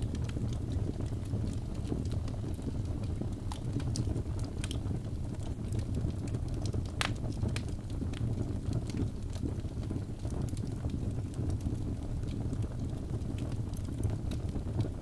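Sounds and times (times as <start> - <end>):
fire flames rumbling: 0.0 - 15.0
fire popping and snapping: 0.0 - 15.0.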